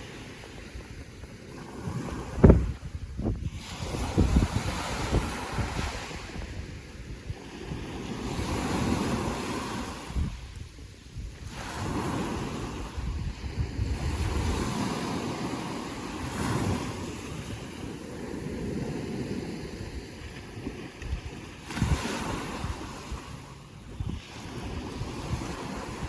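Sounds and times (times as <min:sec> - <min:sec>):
ocean waves washing: 0:00.0 - 0:26.0
wind buffeting microphone: 0:00.0 - 0:26.0.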